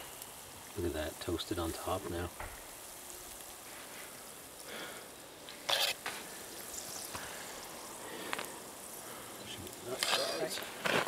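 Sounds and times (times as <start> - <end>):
food sizzling in skillet: 0.0 - 11.0.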